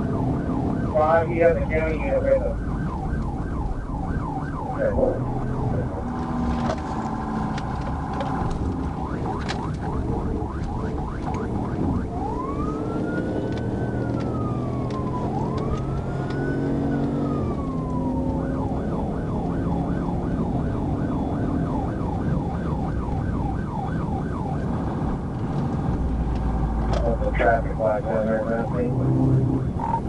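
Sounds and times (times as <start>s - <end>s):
car engine accelerating: 0.0s - 22.0s, 24.6s - 30.0s
police siren wailing and yelping: 0.0s - 25.4s, 26.5s - 30.0s.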